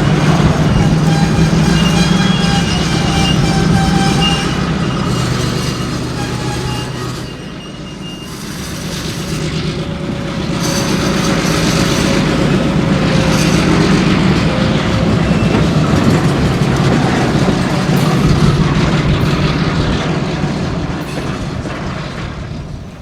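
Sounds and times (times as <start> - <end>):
diesel locomotive rumbling: 0.0 - 23.0.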